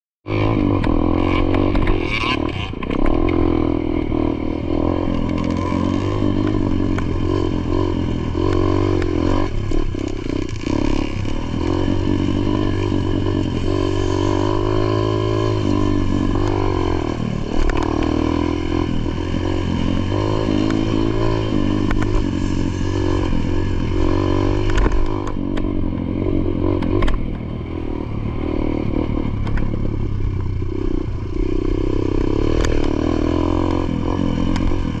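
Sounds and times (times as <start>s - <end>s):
dirt bike engine revving: 0.3s - 35.0s.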